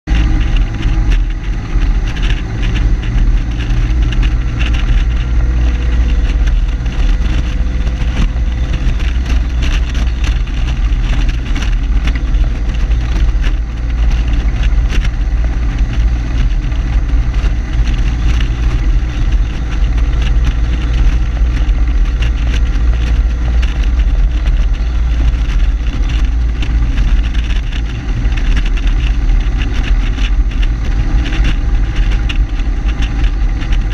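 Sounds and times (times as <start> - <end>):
car engine and road noise: 0.0 - 33.9
wind buffeting on microphone: 0.0 - 33.9.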